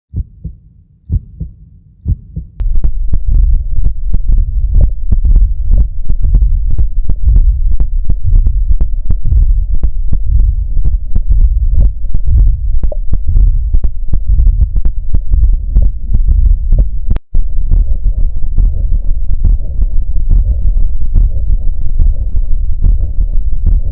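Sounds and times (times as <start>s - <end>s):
heartbeat: 0.1s - 23.9s
steady low hum: 0.1s - 23.9s.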